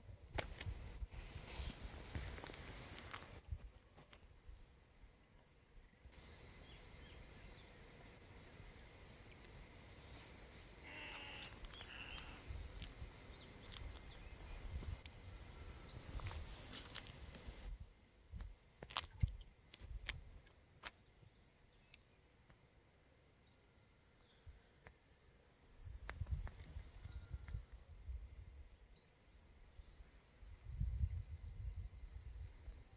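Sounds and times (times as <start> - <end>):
crickets chirring: 0.0 - 32.9
insects trilling: 0.0 - 32.9.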